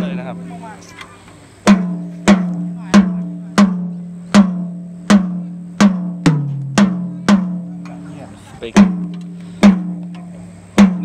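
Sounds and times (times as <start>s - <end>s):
lower-pitched tom hit: 1.7s - 11.0s
rack tom drum hits: 1.7s - 11.0s.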